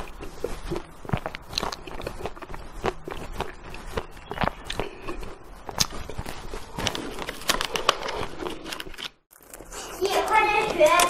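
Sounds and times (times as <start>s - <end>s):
biting and chewing crunches: 0.0s - 11.0s.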